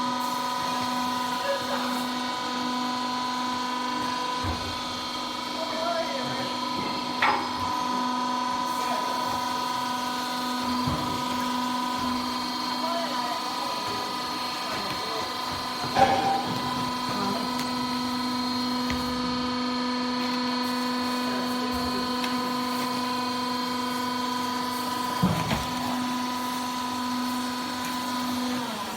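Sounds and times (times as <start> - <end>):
hydraulic power unit humming: 0.0 - 28.9.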